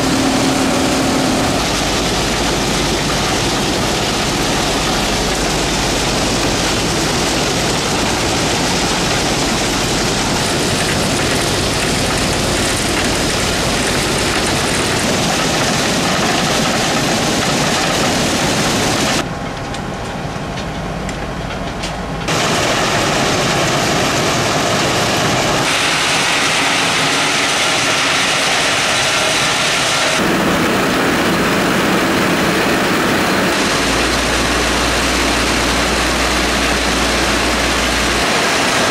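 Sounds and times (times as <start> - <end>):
rail maintenance machinery din: 0.0 - 38.9.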